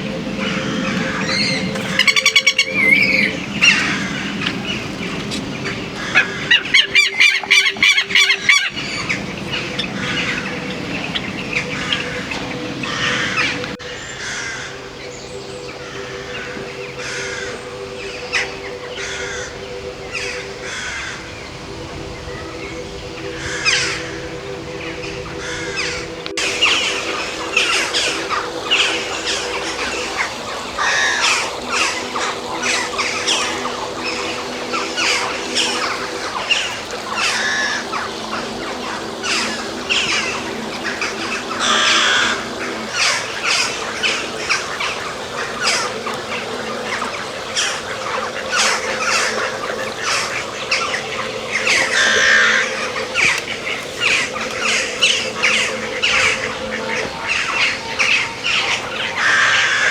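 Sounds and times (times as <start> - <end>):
birds squawking and chirping: 0.0 - 59.9
faint steady hum: 0.0 - 59.9.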